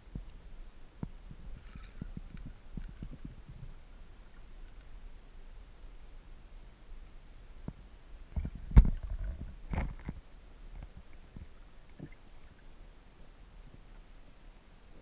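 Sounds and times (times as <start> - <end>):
underwater stream rumble: 0.0 - 15.0.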